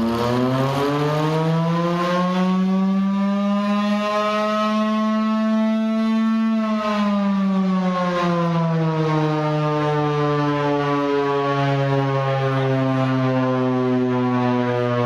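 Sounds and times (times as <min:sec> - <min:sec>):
siren winding down: 0:00.0 - 0:15.0.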